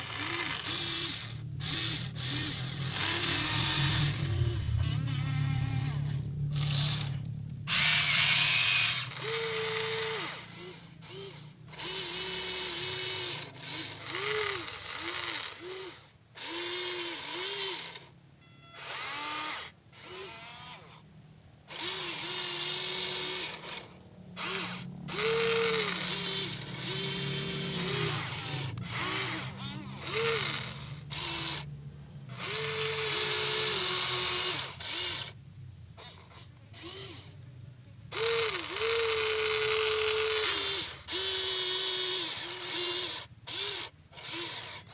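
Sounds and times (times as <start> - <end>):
electric gear motors whining: 0.0 - 44.9.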